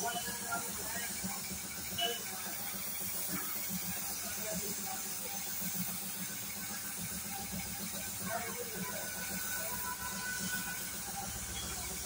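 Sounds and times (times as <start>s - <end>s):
spray gun hissing: 0.0s - 11.1s.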